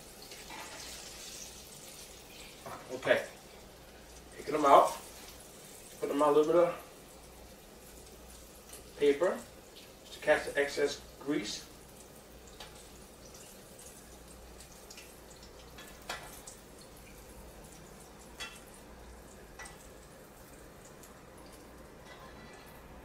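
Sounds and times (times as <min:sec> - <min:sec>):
oil sizzling: 0:00.0 - 0:23.0.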